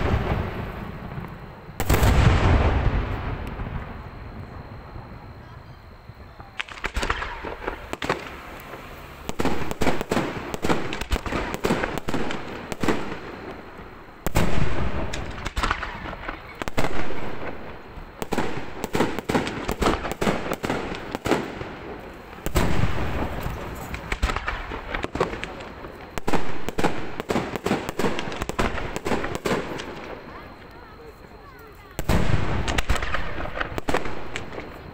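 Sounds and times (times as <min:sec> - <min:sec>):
heavy firework booms: 0:00.0 - 0:30.5, 0:32.0 - 0:34.9
fireworks bangs and crackle: 0:00.0 - 0:34.9.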